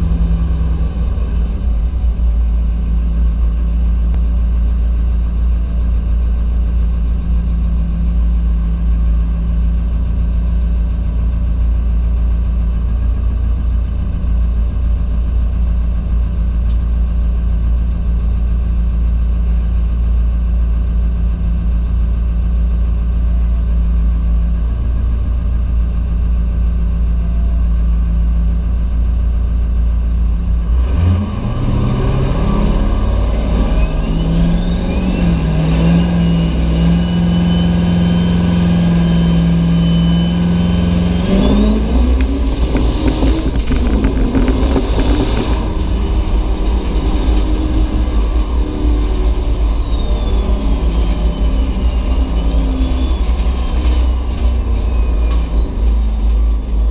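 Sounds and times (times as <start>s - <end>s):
diesel truck engine: 0.0s - 56.9s.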